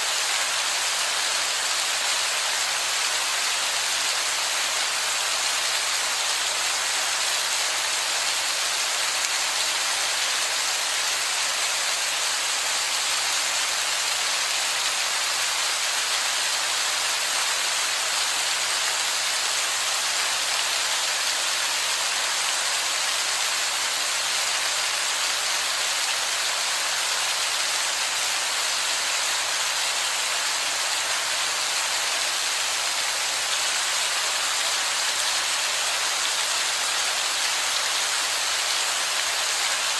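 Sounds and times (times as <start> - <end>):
heavy rain on rock: 0.0 - 39.9.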